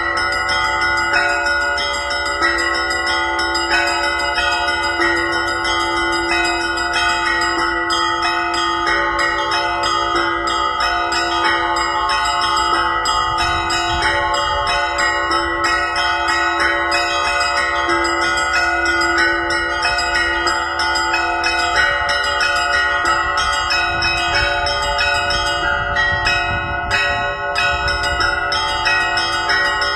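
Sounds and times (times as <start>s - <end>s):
church bells pealing: 0.0s - 29.9s.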